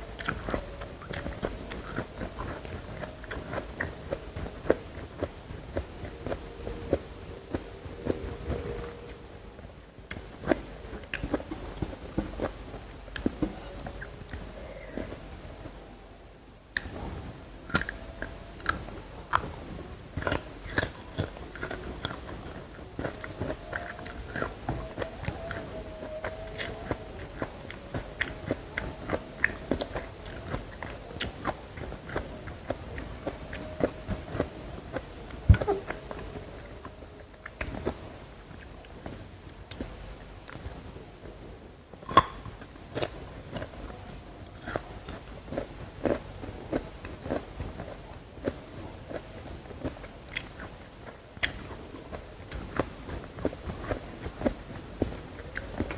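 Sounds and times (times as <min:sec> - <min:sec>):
crunchy chewing: 0:00.0 - 0:09.3, 0:16.8 - 0:55.9.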